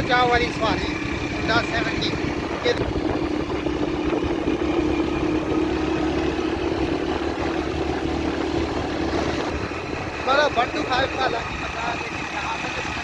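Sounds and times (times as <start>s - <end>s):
motorcycle engine cruising: 0.0s - 13.0s
road and wind noise: 0.0s - 13.0s.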